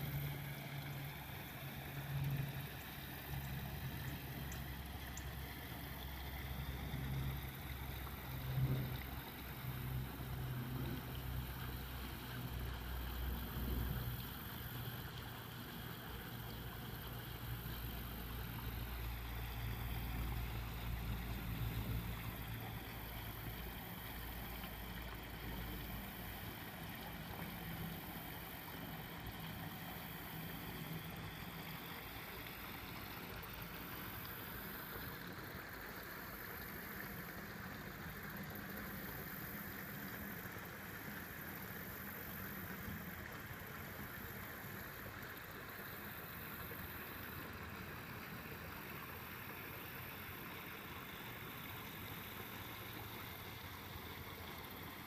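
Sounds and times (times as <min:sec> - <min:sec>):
waterfall splashing into pond: 0:00.0 - 0:55.0.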